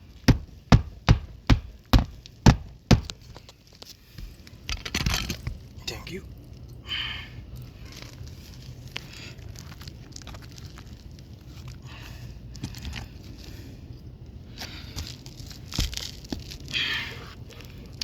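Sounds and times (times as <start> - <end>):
roof shingles crinkling and scraping: 1.3 - 5.8, 7.6 - 18.0.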